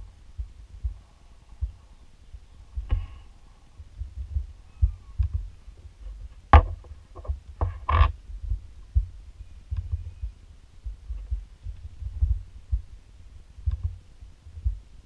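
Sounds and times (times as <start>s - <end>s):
irregular low thumping: 0.0s - 15.0s.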